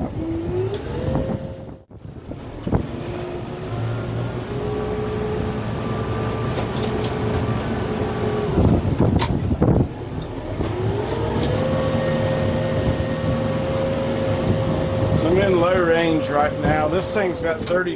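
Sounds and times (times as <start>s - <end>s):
tractor diesel engine: 0.0s - 17.9s.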